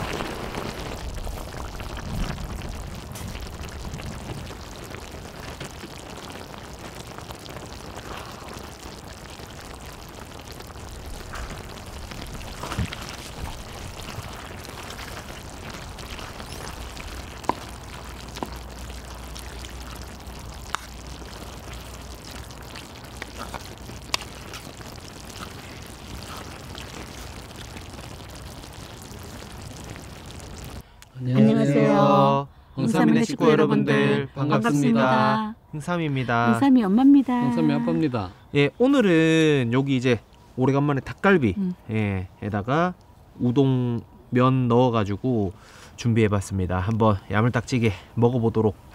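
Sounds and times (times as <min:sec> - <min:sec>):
sauce sizzling and bubbling: 0:00.0 - 0:35.4, 0:36.3 - 0:46.0.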